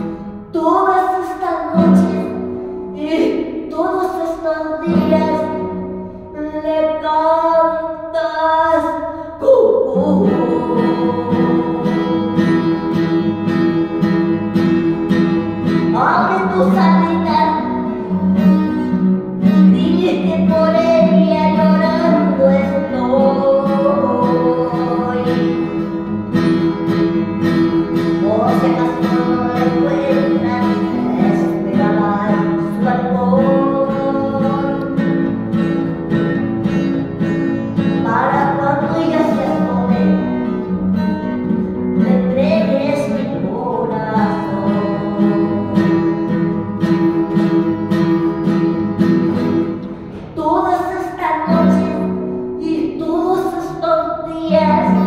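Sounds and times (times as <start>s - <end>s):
woman singing: 0.0s - 26.4s, 27.1s - 35.9s, 36.6s - 47.2s, 50.2s - 55.0s
acoustic guitar strumming: 0.0s - 55.0s.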